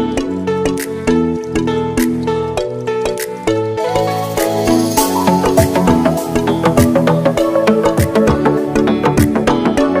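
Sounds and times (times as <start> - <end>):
background music with quick beat: 0.0 - 10.0.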